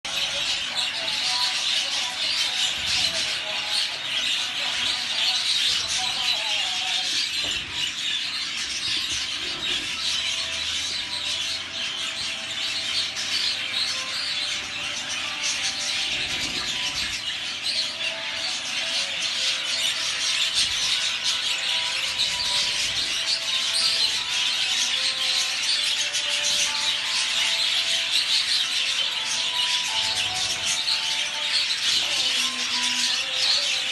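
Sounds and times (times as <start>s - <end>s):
budgerigars chattering and chirping: 0.1s - 33.9s.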